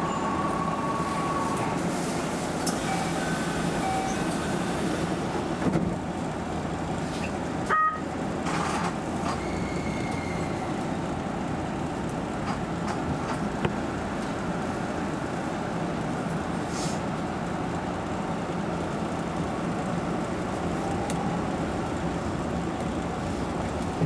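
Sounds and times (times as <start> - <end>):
train wheel and motor noise: 0.0 - 24.0.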